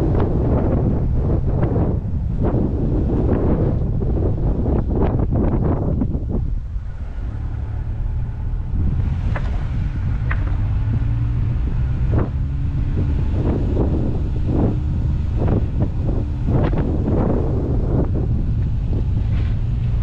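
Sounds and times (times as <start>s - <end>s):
car engine and tyre rumble: 0.0s - 20.0s
wind buffeting microphone: 0.0s - 20.0s.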